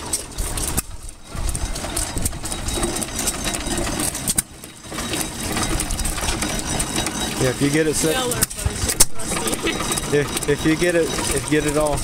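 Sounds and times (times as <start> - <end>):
gas engine clattering: 0.0 - 12.0.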